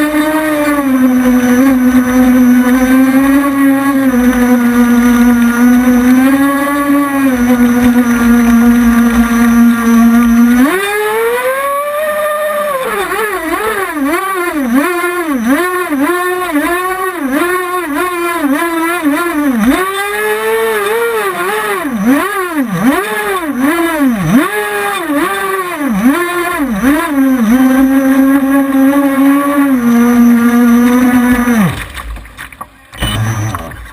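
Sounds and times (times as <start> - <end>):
model boat engine revving: 0.0 - 31.9, 32.9 - 33.9.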